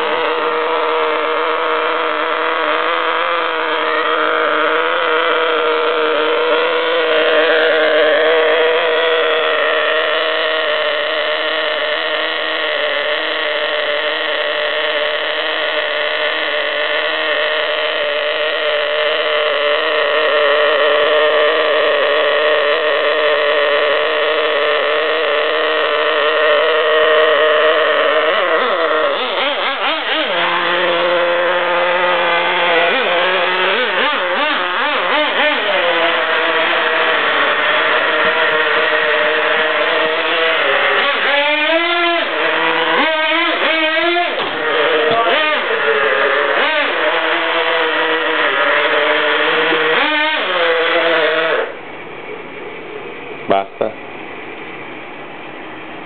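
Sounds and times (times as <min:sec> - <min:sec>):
small engine buzzing and revving: 0:00.0 - 0:51.9.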